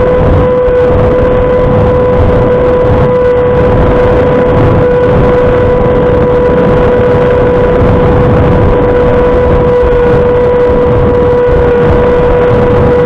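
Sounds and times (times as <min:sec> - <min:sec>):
electric ducted fan whine: 0:00.0 - 0:13.0
wind buffeting microphone: 0:00.0 - 0:13.0.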